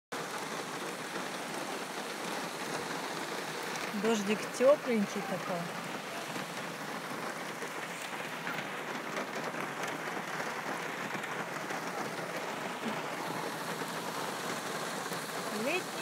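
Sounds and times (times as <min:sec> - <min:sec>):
rain falling on car and grass: 0:00.1 - 0:16.0.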